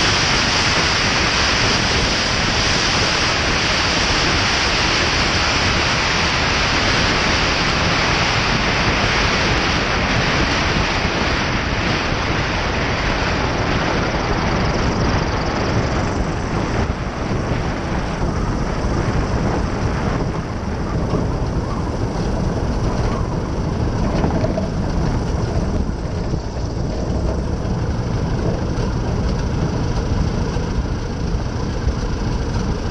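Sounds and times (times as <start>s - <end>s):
aircraft engine idling: 0.0s - 32.9s
rushing air and rolling noise: 0.0s - 32.9s.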